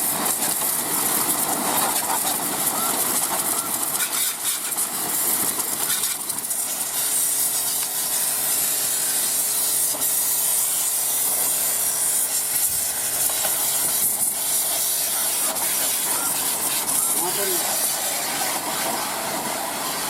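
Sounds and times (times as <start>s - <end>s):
pressure washer spray hissing: 0.0s - 20.0s.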